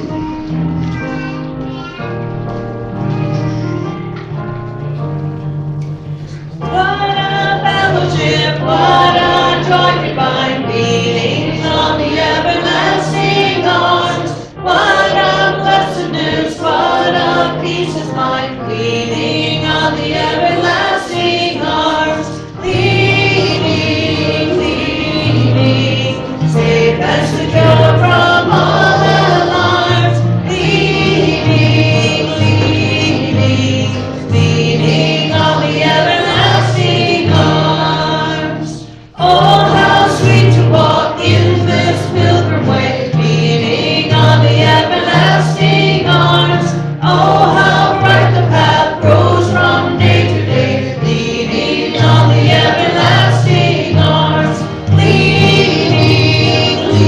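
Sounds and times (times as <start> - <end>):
choir singing worship song: 5.6 - 57.0.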